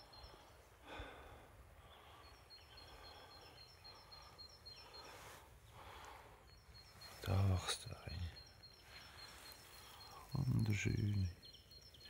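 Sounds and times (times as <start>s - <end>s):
faint high chirp: 2.1s - 12.0s.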